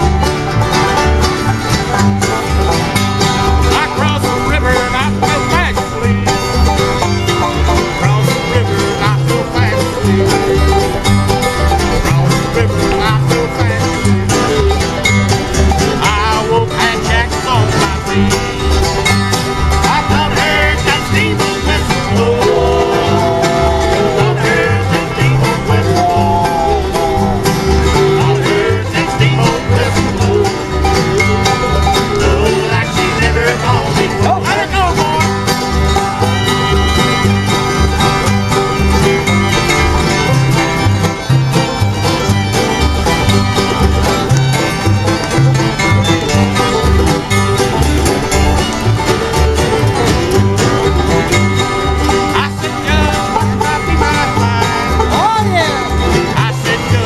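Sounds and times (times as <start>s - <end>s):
banjo: 0.0s - 57.0s
bluegrass band playing: 0.0s - 57.0s.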